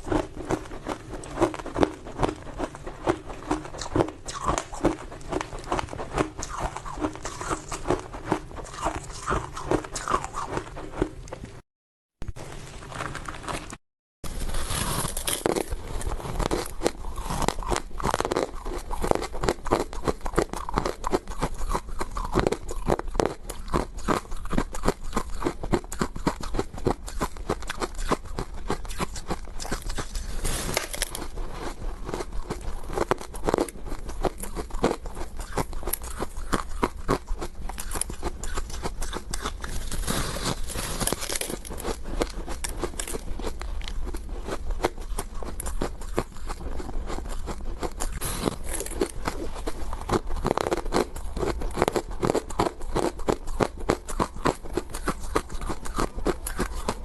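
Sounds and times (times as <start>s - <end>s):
person chewing hard ice: 0.0s - 11.5s, 12.9s - 57.0s.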